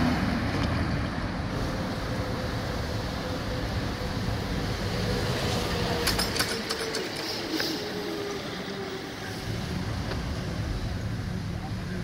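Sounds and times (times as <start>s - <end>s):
low road noise: 0.0s - 12.0s.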